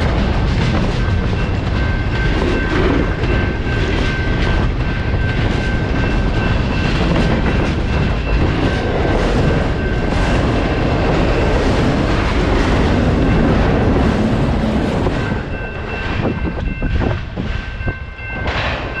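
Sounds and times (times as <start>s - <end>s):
crossing signal bell ringing: 0.0s - 19.0s
freight cars rumbling and rattling: 0.0s - 19.0s.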